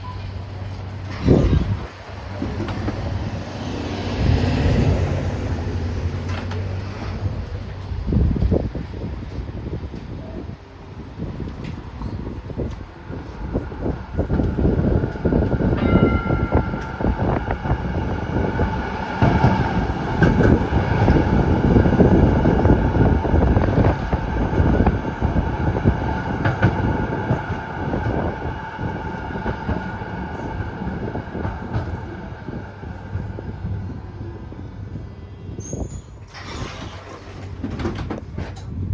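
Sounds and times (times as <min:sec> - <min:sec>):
tram wheels rumbling on rails: 0:00.0 - 0:38.9.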